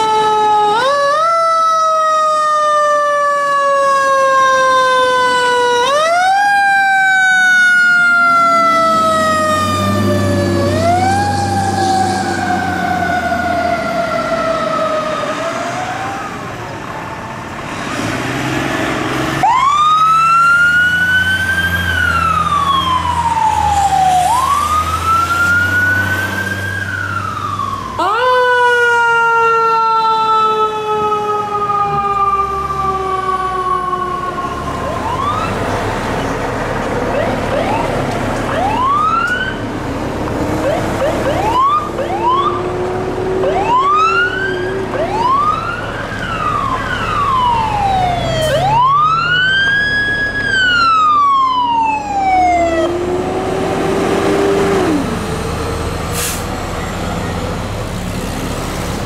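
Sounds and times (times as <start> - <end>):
emergency vehicle siren: 0.0 - 59.0
low rumble of traffic: 0.0 - 59.0.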